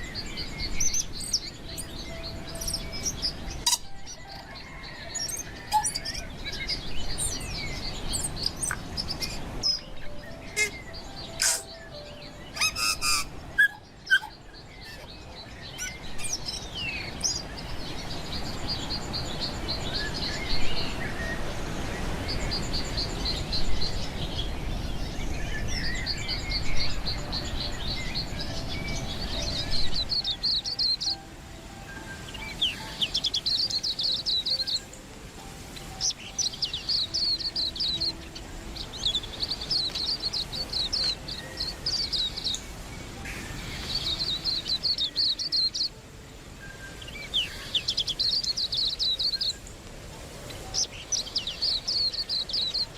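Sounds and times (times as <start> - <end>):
bird chirps and trills: 0.0 - 52.9.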